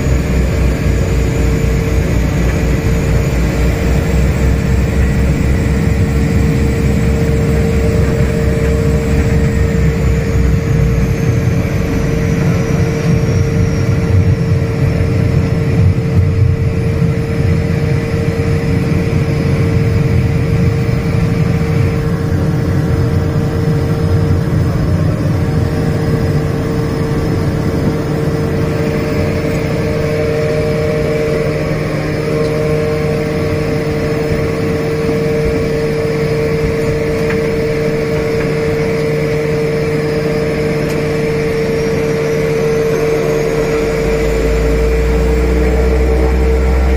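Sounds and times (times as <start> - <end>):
propeller drone: 0.0 - 46.9
steady humming tone: 0.0 - 46.9.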